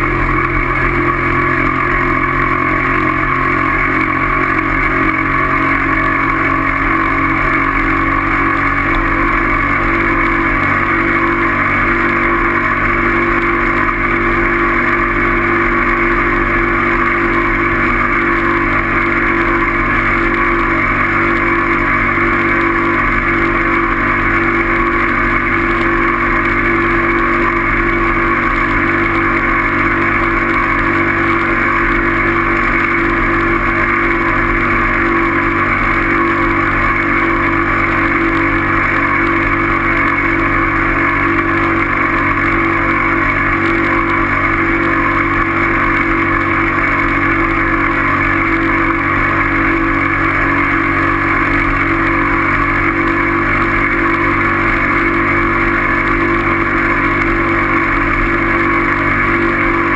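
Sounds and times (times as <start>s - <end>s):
vehicle droning: 0.0s - 59.9s.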